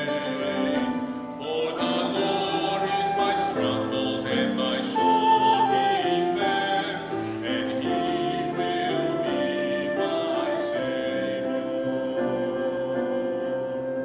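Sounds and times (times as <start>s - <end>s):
slow church music chords: 0.0s - 14.0s
voices singing: 0.0s - 14.0s.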